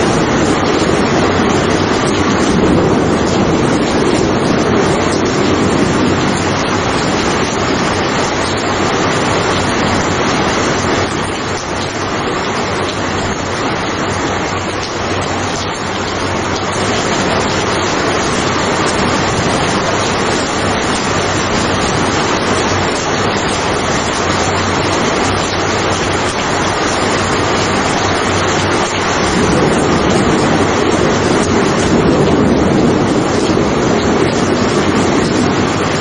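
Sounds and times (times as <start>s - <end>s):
heavy rain hissing: 0.0s - 36.0s.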